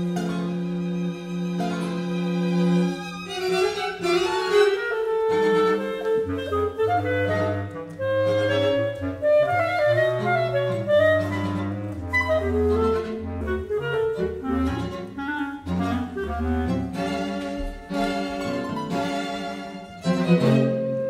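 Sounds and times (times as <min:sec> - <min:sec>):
chamber ensemble playing: 0:00.0 - 0:21.0
clarinet: 0:00.0 - 0:21.0.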